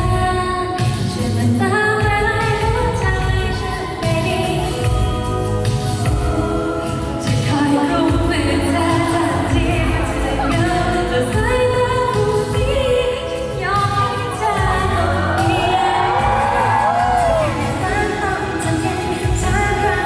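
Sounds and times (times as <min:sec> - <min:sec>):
amplified backing track with bass beat: 0:00.0 - 0:20.0
women singing pop song: 0:00.0 - 0:20.0.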